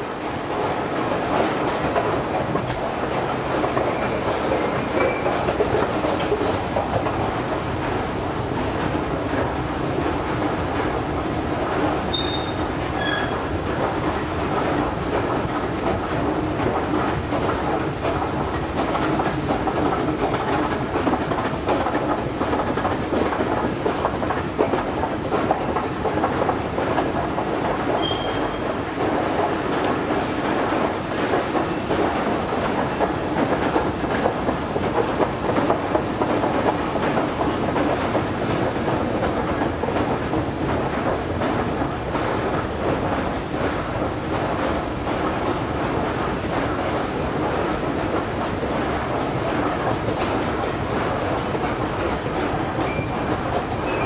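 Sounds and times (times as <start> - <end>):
escalator steps rattling: 0.0 - 54.0.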